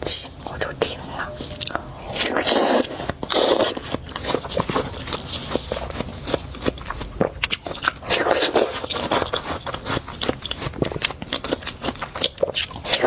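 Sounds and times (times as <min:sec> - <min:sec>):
watermelon bitten and chewed: 0:00.0 - 0:13.0.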